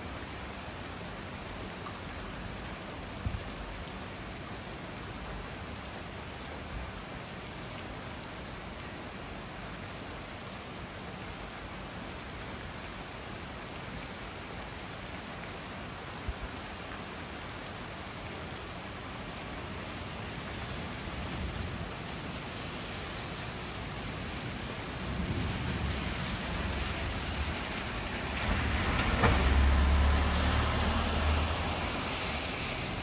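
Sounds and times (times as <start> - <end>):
heavy rain on trees and street: 0.0 - 33.0.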